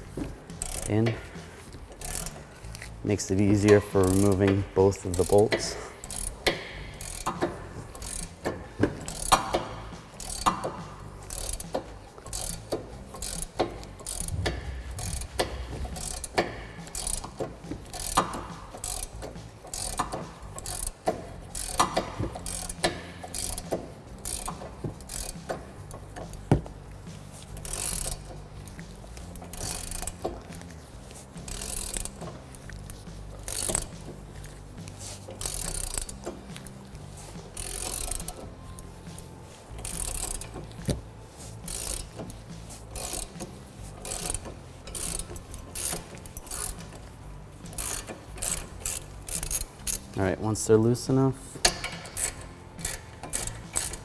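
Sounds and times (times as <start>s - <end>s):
hand ratchet clicking: 0.2s - 50.2s, 51.6s - 54.0s.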